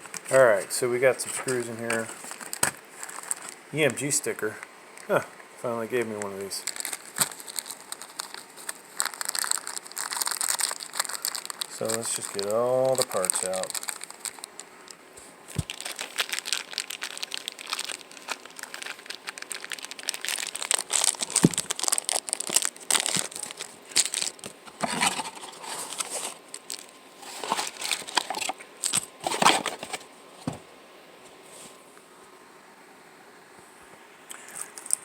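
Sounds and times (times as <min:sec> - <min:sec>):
packaging crinkling: 0:01.0 - 0:05.1, 0:05.8 - 0:30.6.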